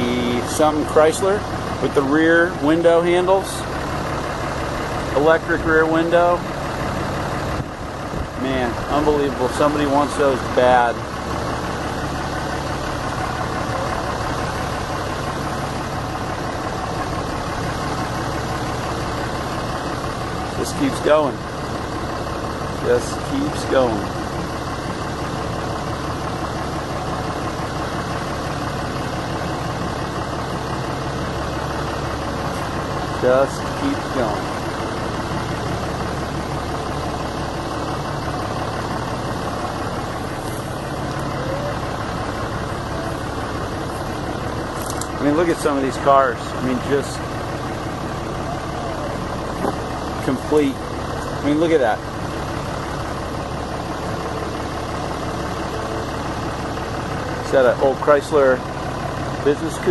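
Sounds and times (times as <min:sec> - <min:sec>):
vehicle engine hum: 0:00.0 - 0:59.9.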